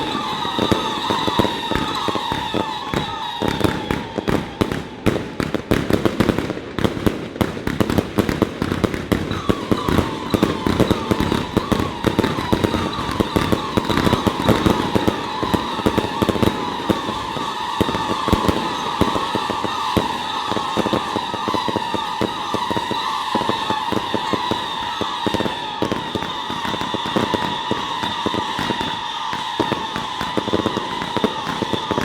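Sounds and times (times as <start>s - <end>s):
high wavering whistle: 0.0s - 4.6s, 9.3s - 32.0s
firecrackers crackling: 0.0s - 32.0s.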